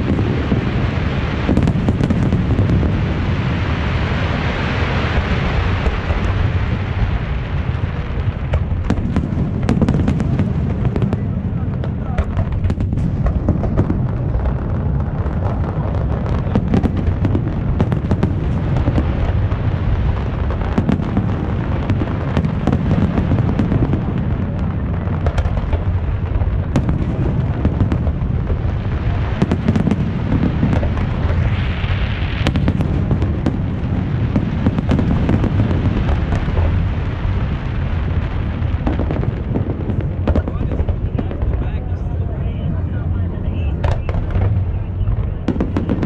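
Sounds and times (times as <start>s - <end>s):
fireworks booming and cracking: 0.0s - 46.0s.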